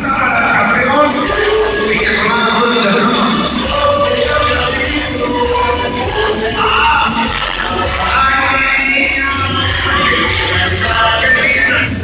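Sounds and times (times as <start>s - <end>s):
loud latin dance music: 0.0s - 12.0s.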